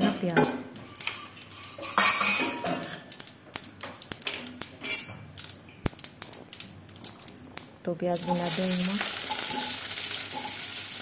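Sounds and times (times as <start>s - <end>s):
seeds spluttering in hot oil: 0.0s - 11.0s.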